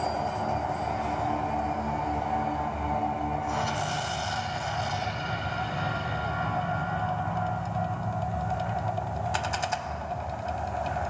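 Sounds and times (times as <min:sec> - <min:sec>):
constant held tone: 0:00.0 - 0:11.0.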